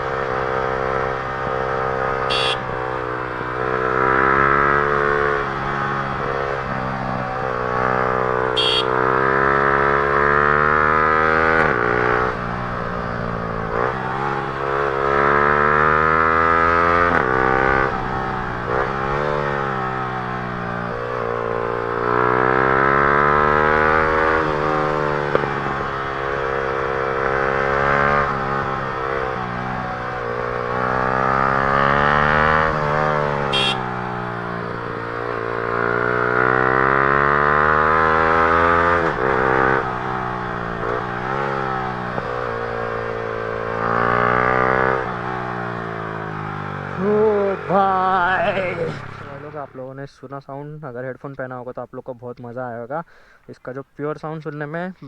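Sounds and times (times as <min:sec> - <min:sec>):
motorcycle engine revving: 0:00.0 - 0:49.8.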